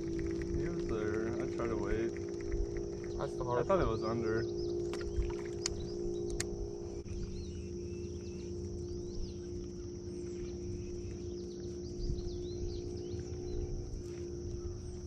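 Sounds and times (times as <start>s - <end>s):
birds chirping: 0.0s - 15.0s
high-pitched drone: 0.0s - 15.0s
low hum: 0.0s - 15.0s.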